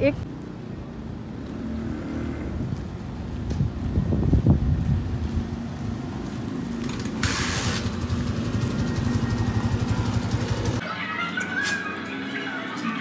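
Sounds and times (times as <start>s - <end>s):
vehicle engine rumbling: 0.3s - 10.8s.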